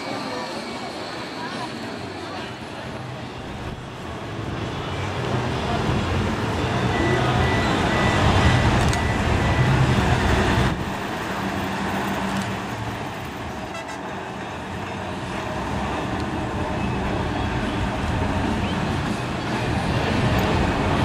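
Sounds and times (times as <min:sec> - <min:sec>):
road traffic: 0:00.0 - 0:21.0
trams running on track: 0:00.0 - 0:21.0.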